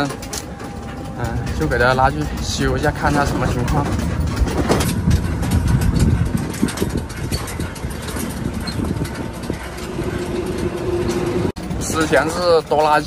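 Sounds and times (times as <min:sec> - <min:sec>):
small knocks and rattles: 0:00.0 - 0:13.0
vehicle rumble on rough road: 0:00.0 - 0:13.0.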